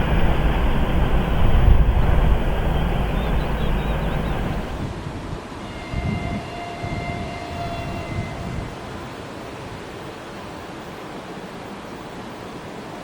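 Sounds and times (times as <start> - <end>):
freight train rumbling: 0.0 - 11.5.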